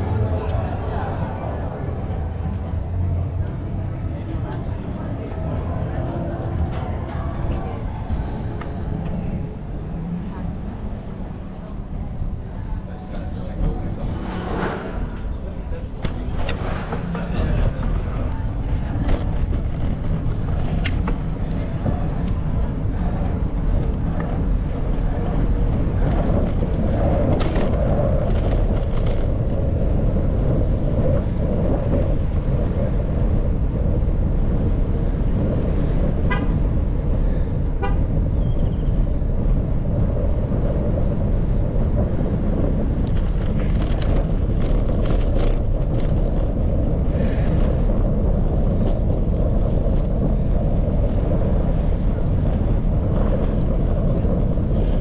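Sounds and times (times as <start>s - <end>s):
bicycle road noise: 0.0s - 55.0s
wind rumble on microphone: 0.0s - 55.0s.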